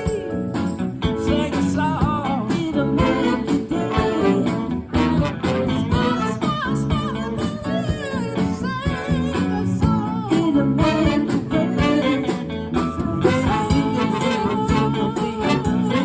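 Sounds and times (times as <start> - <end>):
guitar accompaniment: 0.0 - 16.0
person singing: 1.1 - 16.0.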